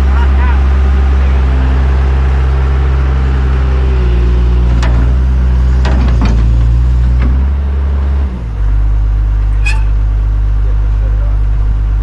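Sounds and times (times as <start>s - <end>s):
large diesel engine running: 0.0s - 12.0s.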